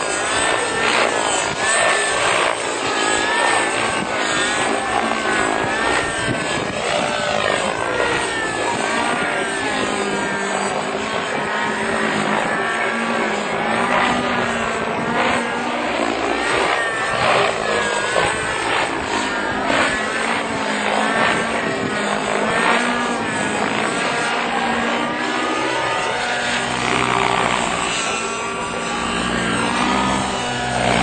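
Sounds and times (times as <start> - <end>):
helicopter drone with whine: 0.0 - 31.0.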